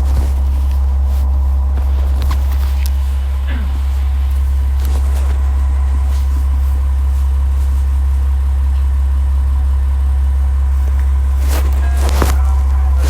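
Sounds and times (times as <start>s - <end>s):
diesel engine idling drone: 0.0s - 13.0s.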